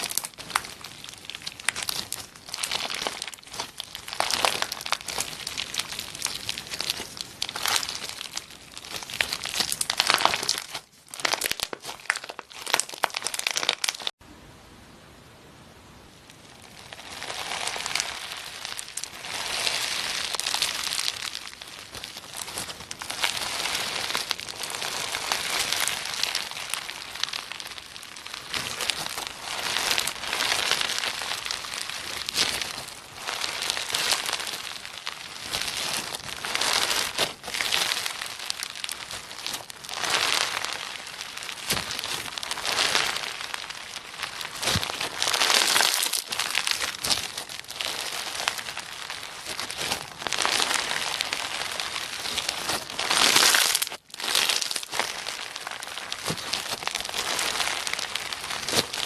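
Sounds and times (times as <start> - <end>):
slime crackling and popping: 0.0 - 14.2, 16.3 - 59.0.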